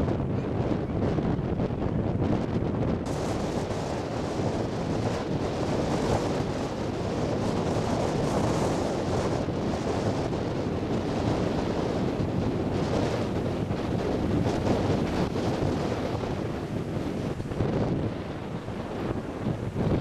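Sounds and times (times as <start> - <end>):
rough sea waves: 0.0 - 20.0
wind buffeting microphone: 0.0 - 20.0.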